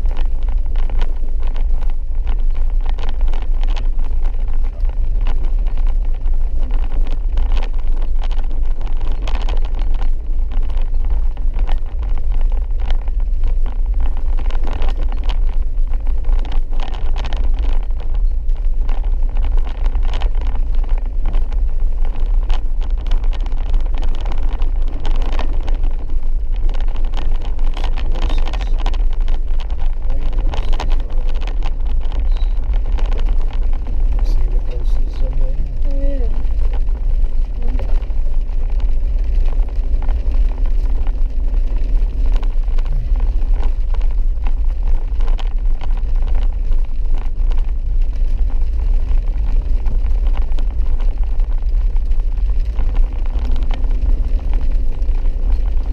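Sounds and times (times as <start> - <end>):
vehicle rumbling on dirt road: 0.0 - 55.9.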